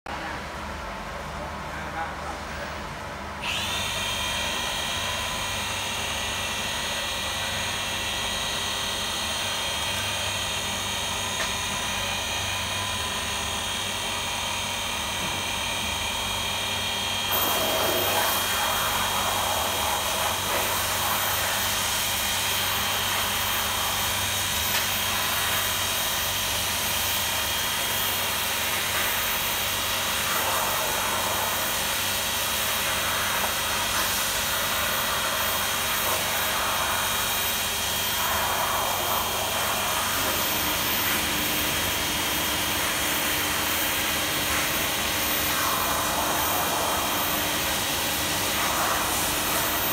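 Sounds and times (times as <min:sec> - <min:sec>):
machine spindle whine: 0:03.4 - 0:49.9.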